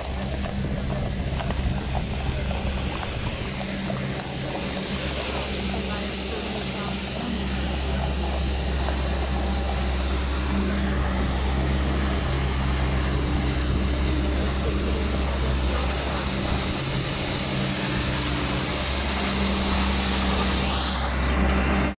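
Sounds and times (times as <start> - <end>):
hiss: 0.0 - 21.4
deep rumble: 0.0 - 21.9.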